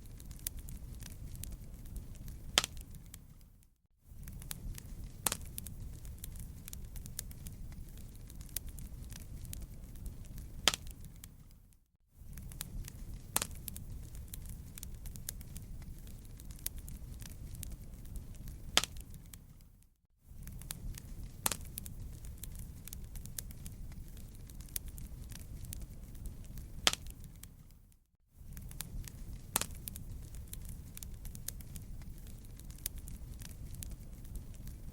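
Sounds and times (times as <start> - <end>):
louder fire pops: 0.0 - 3.5, 4.2 - 11.5, 12.3 - 19.7, 20.4 - 27.7, 28.5 - 34.9
fire crackling in fireplace: 0.0 - 34.9.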